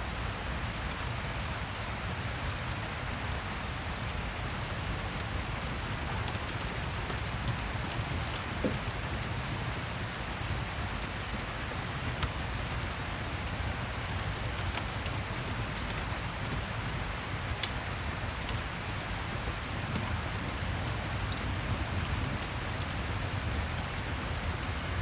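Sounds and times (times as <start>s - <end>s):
faint fire crackles: 0.0s - 25.0s
steady rain: 0.0s - 25.0s.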